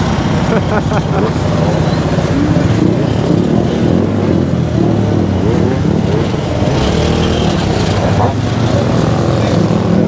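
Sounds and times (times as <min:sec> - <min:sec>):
scooter engine revving: 0:00.0 - 0:10.0
scooter engines running: 0:00.0 - 0:10.0.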